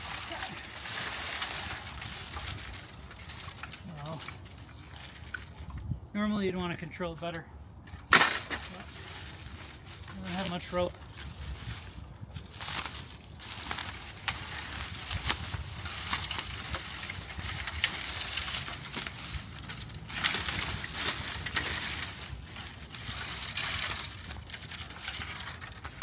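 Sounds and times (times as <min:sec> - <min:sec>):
twigs and leaves rustling: 0:00.0 - 0:26.0.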